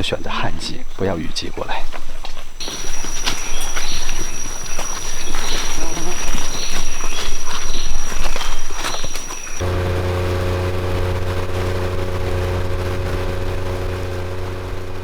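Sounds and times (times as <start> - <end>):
high insect whine: 0.0 - 13.4
low droning hum: 2.4 - 15.0.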